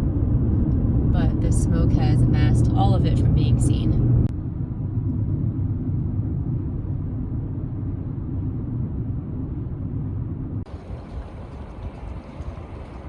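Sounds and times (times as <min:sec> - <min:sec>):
car engine and tyres rumbling: 0:00.0 - 0:13.0
wind noise on microphone: 0:00.0 - 0:13.0.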